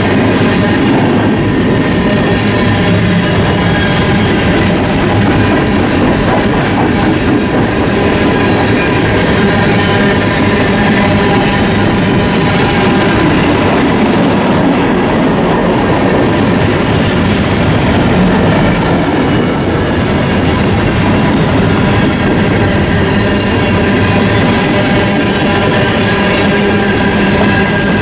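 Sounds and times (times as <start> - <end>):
train wheel squeal: 0.0 - 14.8, 18.2 - 28.0
train wheels rumbling: 0.0 - 28.0.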